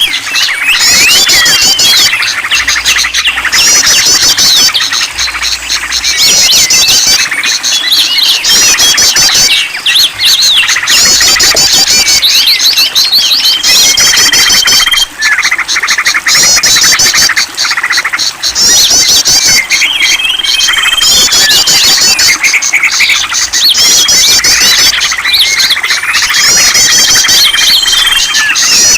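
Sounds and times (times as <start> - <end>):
long steady bird whistle: 0.0 - 15.4, 18.6 - 28.9
songbirds chirping and trilling: 0.0 - 28.9.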